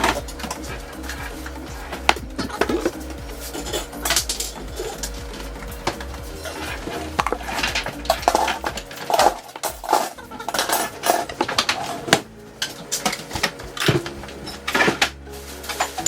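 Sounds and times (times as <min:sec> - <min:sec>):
jars and bottles clinking: 0:00.0 - 0:16.0.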